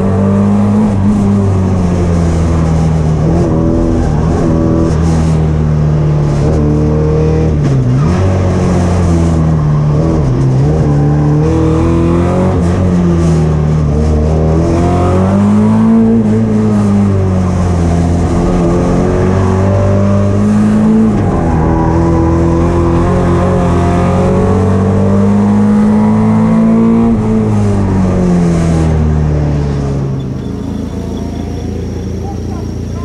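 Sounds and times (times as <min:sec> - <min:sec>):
car engine at high revs: 0:00.0 - 0:33.0.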